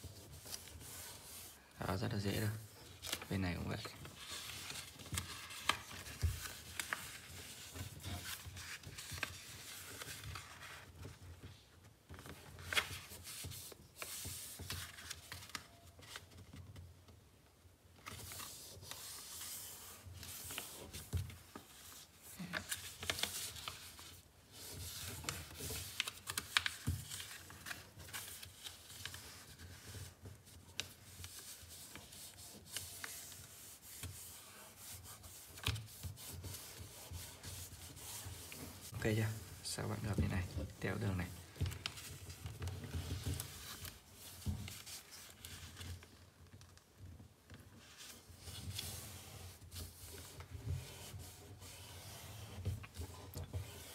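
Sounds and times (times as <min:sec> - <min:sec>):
paper rustling while folded: 0:00.0 - 0:17.0, 0:17.9 - 0:53.9
paper crackling: 0:02.3 - 0:11.2, 0:12.1 - 0:16.6, 0:18.0 - 0:53.9.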